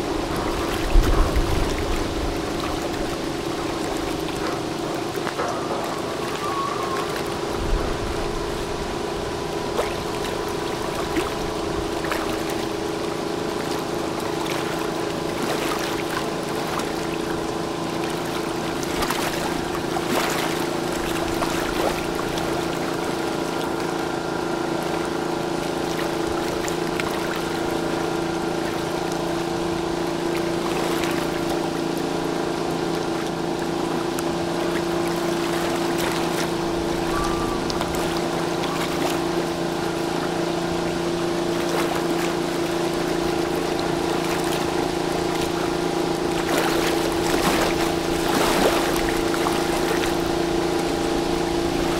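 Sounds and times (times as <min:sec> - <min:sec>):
ship engines droning: 0:00.0 - 0:51.9
water wash: 0:00.0 - 0:51.9.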